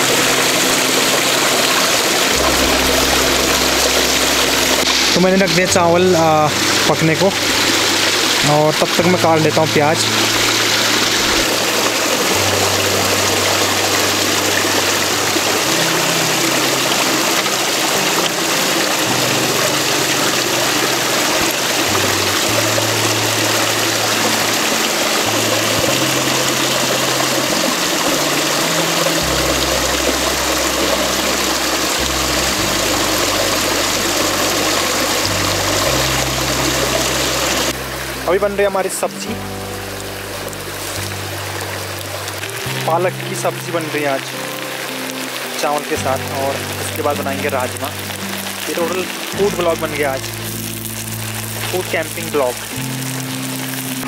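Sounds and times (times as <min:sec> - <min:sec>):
river rushing: 0:00.0 - 0:54.0
soft background music: 0:00.0 - 0:54.0.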